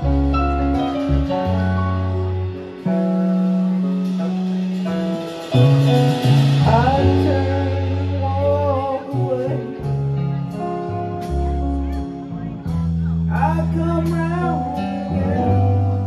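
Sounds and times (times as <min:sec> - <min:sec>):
drums: 0:00.0 - 0:16.0
electric bass: 0:00.0 - 0:16.0
electric guitar: 0:00.0 - 0:16.0
keyboard chords: 0:00.0 - 0:16.0
sliding melody line: 0:00.0 - 0:16.0.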